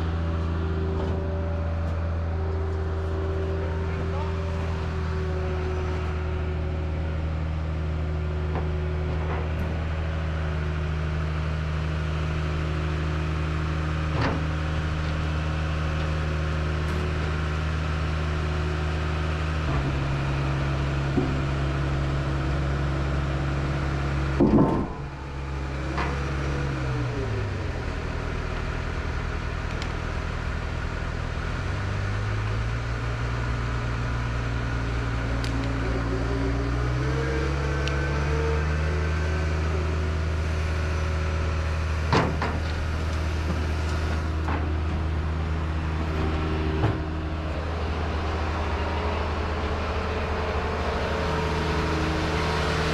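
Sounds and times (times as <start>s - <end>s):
crane diesel engine running: 0.0s - 52.9s.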